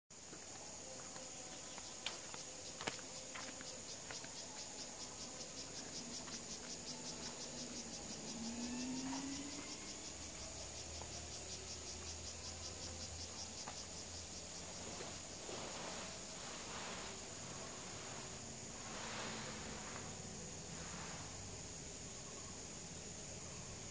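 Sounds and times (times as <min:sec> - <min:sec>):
insects trilling: 0:00.2 - 0:23.9.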